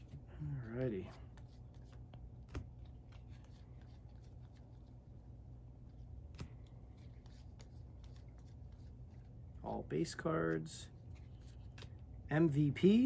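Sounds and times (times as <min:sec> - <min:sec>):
cards flipping and sliding: 0:00.0 - 0:05.2, 0:05.8 - 0:09.3, 0:10.1 - 0:12.1
low room hum: 0:00.0 - 0:13.0.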